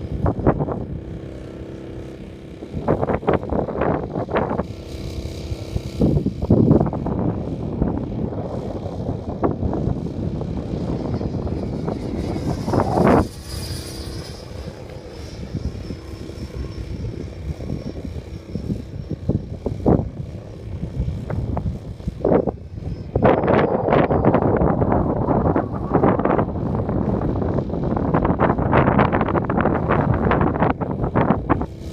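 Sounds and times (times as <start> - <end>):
model airplane motor whining: 0.0 - 31.9
wind buffeting microphone: 0.0 - 31.9.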